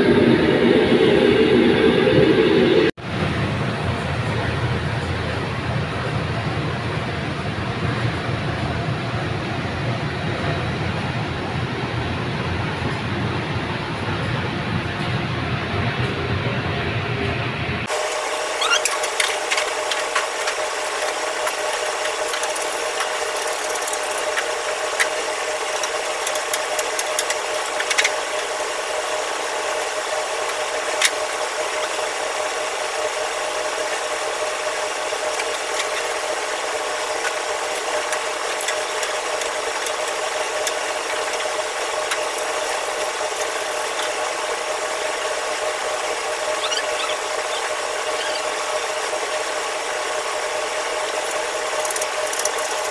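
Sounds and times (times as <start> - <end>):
kitchen machinery humming: 0.0 - 52.9.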